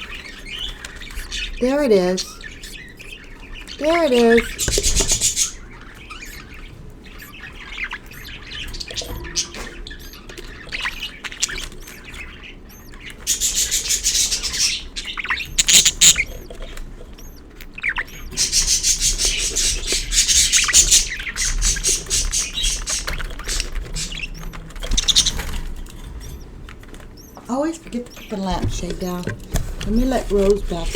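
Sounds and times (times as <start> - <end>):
budgerigars chirping and chattering: 0.0 - 30.9.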